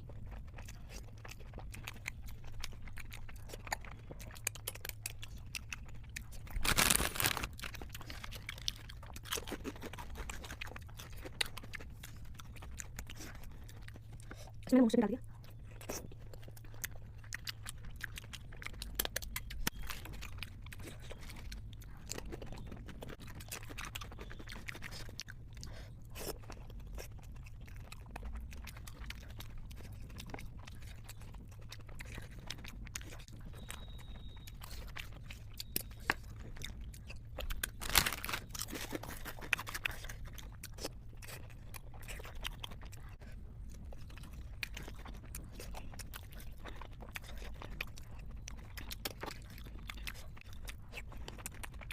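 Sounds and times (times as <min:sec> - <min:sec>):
chewing and crunching: 0:00.0 - 0:51.9
low steady hum: 0:00.0 - 0:51.9.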